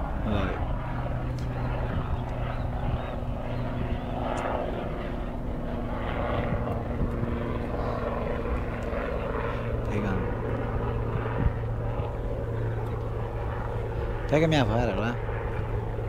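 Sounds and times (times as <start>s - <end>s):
aircraft engine droning: 0.0s - 16.0s.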